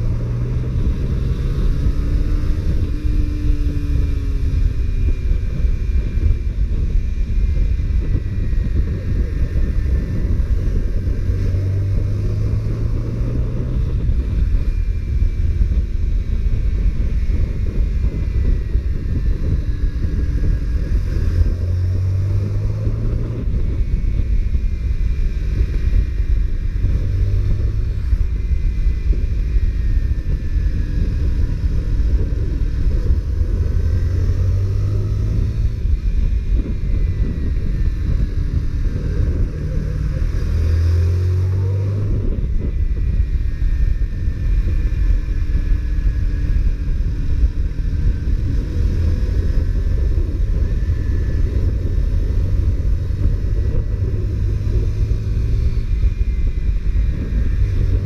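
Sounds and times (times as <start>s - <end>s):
low wind rumble on microphone: 0.0s - 58.0s
motorcycle engine: 0.0s - 58.0s.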